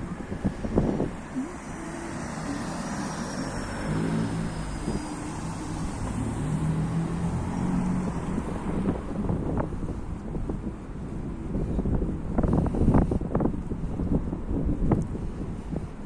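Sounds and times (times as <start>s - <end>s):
car engine hum: 0.0s - 16.0s
road and tyre noise: 0.0s - 16.0s.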